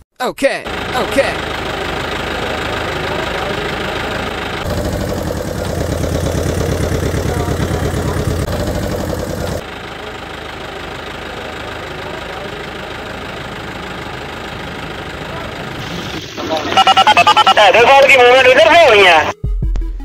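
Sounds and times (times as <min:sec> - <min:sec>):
engine running with low throb: 0:00.7 - 0:17.6.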